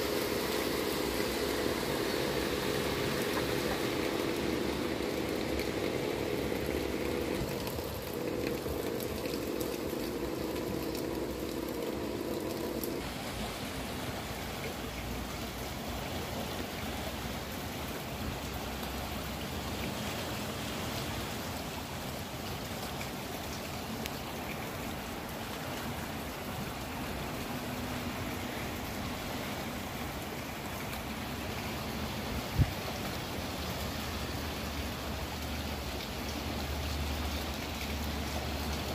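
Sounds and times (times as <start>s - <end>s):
car driving through flood water: 0.0s - 38.9s
water gushing from manhole: 0.0s - 38.9s.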